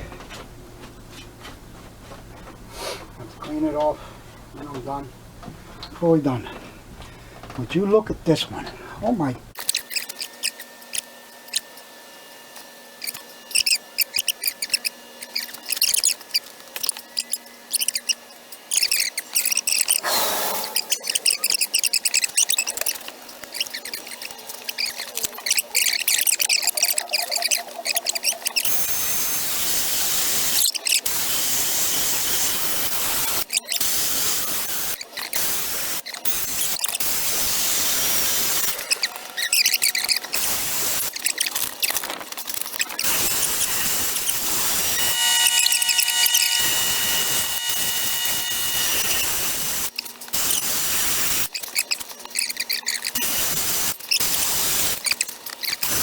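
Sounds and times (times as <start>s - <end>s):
rotary grinder grinding metal: 9.5s - 11.9s, 12.5s - 56.0s.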